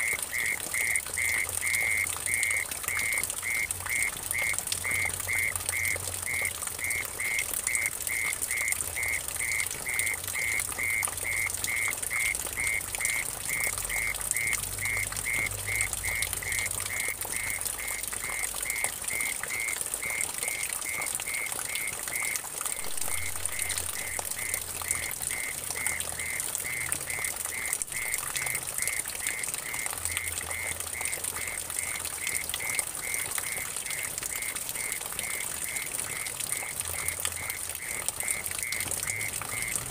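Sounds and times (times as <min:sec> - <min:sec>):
water splashing into a puddle: 0:00.0 - 0:39.9.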